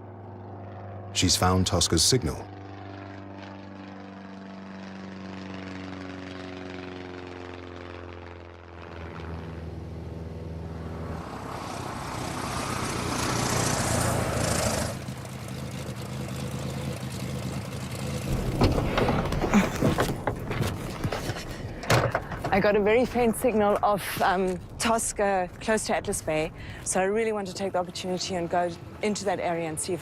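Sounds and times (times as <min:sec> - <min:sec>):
propeller aircraft engine droning: 0:00.0 - 0:30.0.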